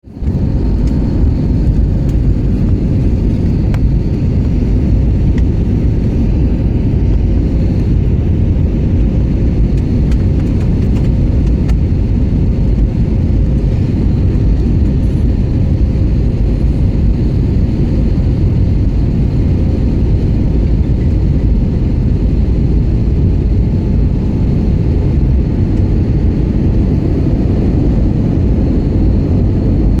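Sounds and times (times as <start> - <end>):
airliner cabin rumble: 0.0 - 30.0
faint steady whine: 0.0 - 30.0.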